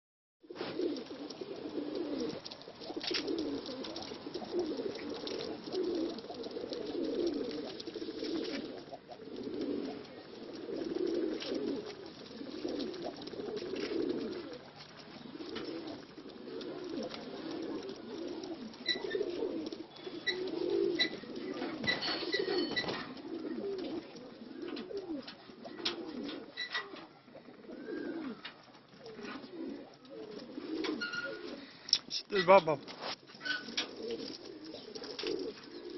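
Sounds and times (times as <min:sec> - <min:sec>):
pigeons cooing: 0:00.4 - 0:35.9.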